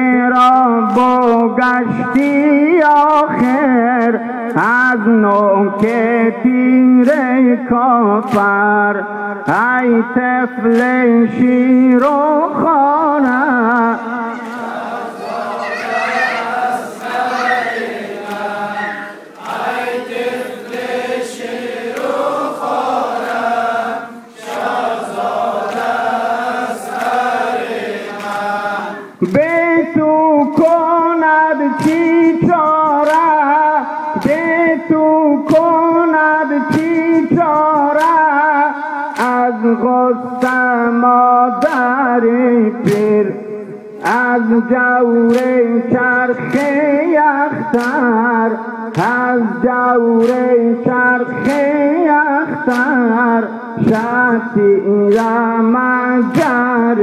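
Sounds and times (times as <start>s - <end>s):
man singing lead: 0.0s - 57.0s
men chanting a lament: 0.0s - 57.0s
rhythmic chest-beating: 1.8s - 57.0s.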